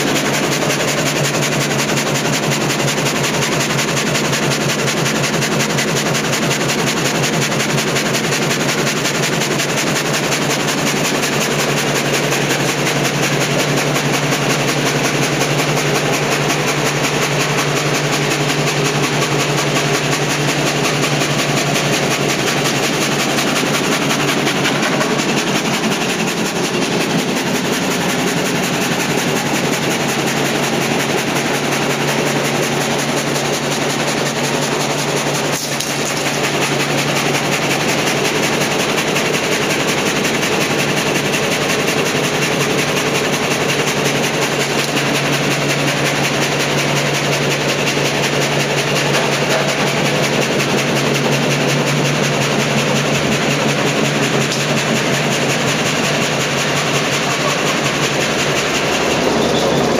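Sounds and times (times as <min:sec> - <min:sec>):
gang saw sawing timber: 0:00.0 - 0:59.9.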